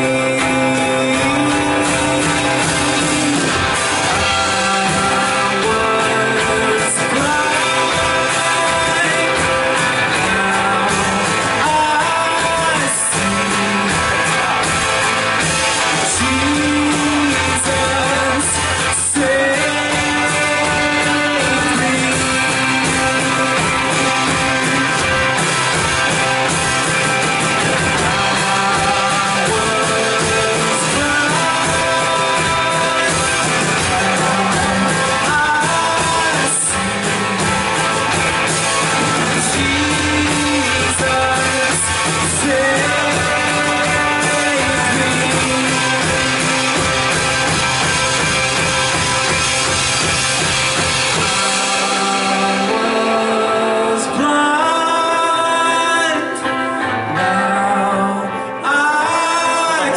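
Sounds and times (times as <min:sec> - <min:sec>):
drums: 0:00.0 - 0:59.9
guitar: 0:00.0 - 0:59.9
live band playing: 0:00.0 - 0:59.9.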